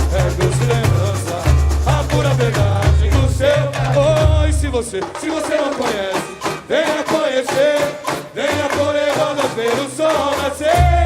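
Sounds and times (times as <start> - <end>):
deep samba drums: 0.0 - 11.0
light percussion: 0.0 - 11.0
person singing samba: 0.0 - 11.0.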